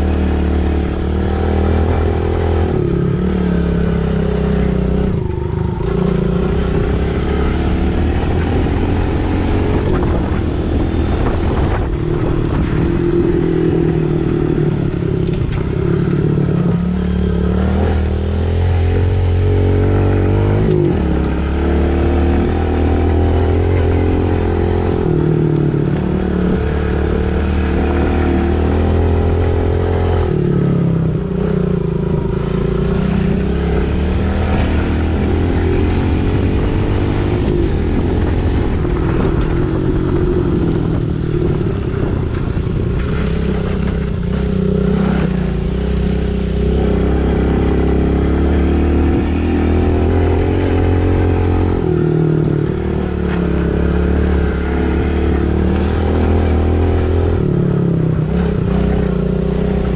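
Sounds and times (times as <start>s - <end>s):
pit bike engine revving: 0.0s - 59.9s.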